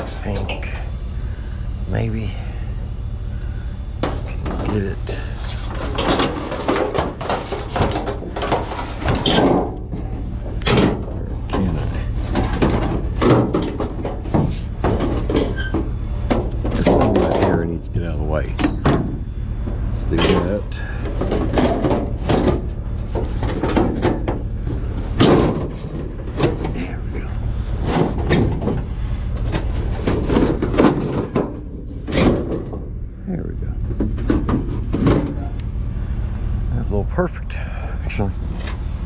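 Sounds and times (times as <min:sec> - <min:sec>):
junk knocking and scraping: 0:00.0 - 0:39.0
low rumble: 0:00.0 - 0:39.0
steady low hum: 0:00.0 - 0:39.0.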